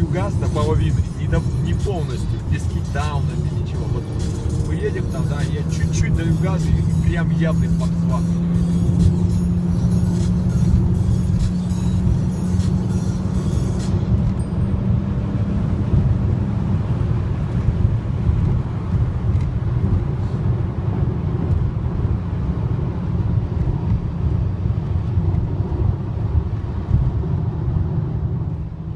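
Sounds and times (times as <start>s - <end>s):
car interior road noise: 0.0s - 28.9s.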